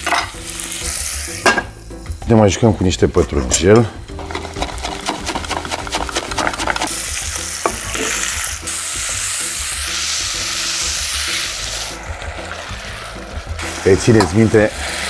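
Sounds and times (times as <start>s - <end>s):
food sizzling in a pan: 0.0s - 2.3s, 4.0s - 15.0s.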